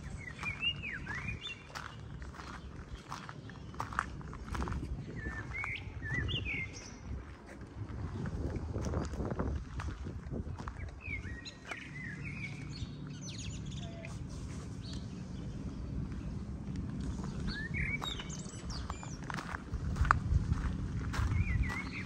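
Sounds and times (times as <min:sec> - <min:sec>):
birds chirping: 0:00.0 - 0:07.3, 0:10.3 - 0:22.0
low steady hum: 0:00.0 - 0:22.0.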